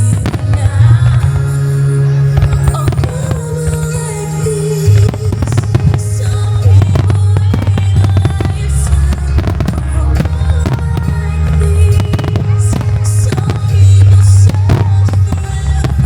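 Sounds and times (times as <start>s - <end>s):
fireworks bursting: 0.0s - 16.0s
loud music with heavy bass: 0.0s - 16.0s.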